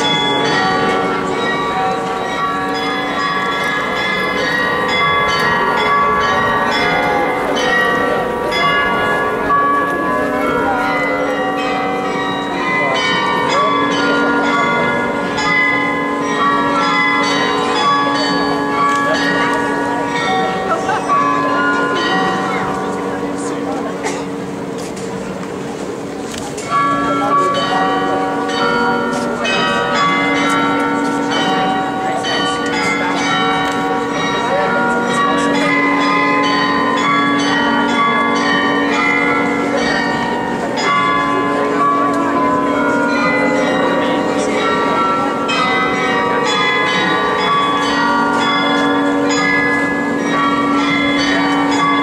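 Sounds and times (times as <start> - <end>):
large bells ringing: 0.0 - 52.0.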